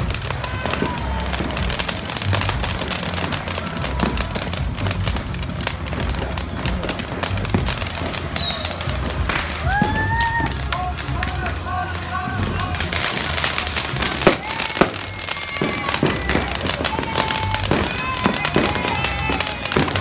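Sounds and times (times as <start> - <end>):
fireworks crackling and popping: 0.0 - 20.0
fountain firework spraying sparks: 0.0 - 20.0
music playing: 0.0 - 20.0.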